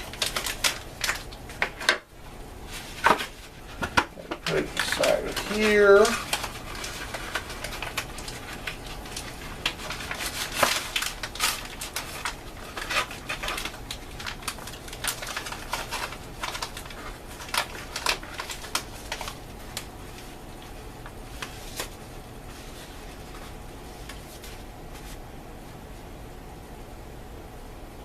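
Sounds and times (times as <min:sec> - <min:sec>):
plastic pouch and carton crinkling: 0:00.0 - 0:25.2.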